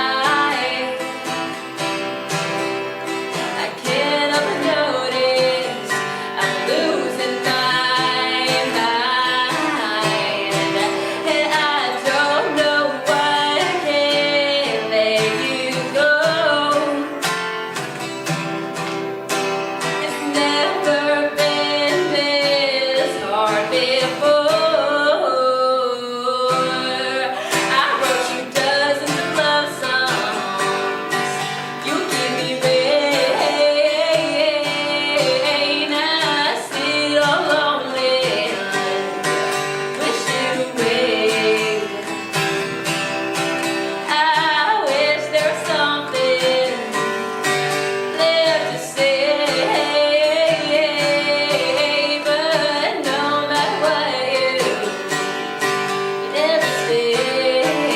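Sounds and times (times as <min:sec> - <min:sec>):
woman singing: 0:00.0 - 0:17.8, 0:19.8 - 0:57.9
acoustic guitar: 0:00.0 - 0:57.9.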